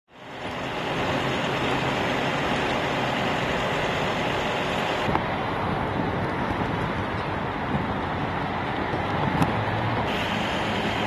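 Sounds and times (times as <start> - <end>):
trucks driving past: 0.1 - 11.0.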